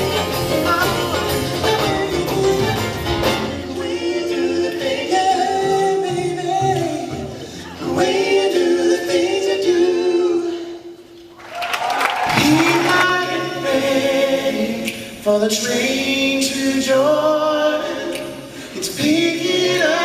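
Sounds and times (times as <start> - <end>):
male vocal group singing harmony: 0.0 - 11.0, 12.3 - 20.0.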